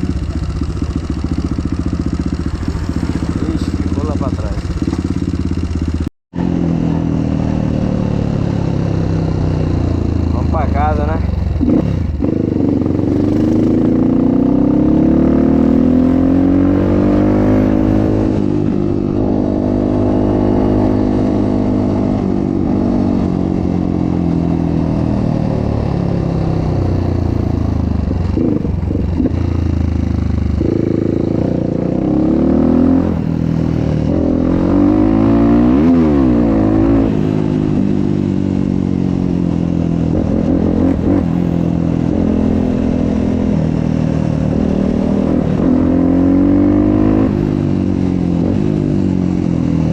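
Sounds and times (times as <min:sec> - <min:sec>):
motorbike engine accelerating: 0:00.0 - 0:49.9.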